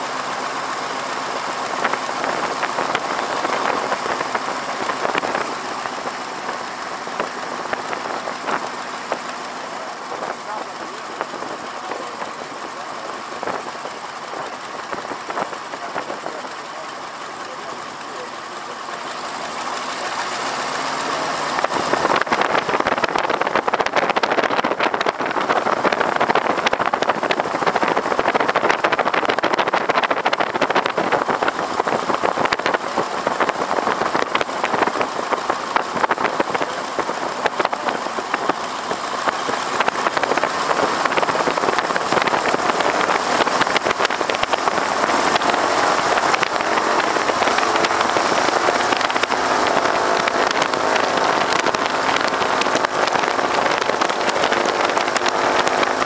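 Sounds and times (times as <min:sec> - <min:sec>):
biplane radial engine running hard: 0:00.0 - 0:56.0.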